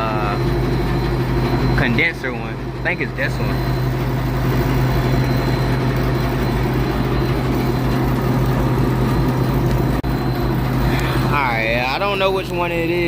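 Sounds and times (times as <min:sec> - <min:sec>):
air conditioning unit humming: 0:00.0 - 0:13.0.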